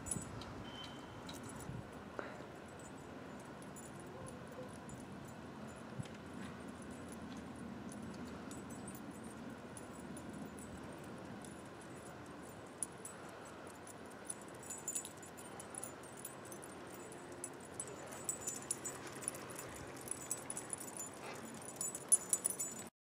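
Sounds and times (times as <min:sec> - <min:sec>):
dog collar tags jingling: 0:00.0 - 0:22.9.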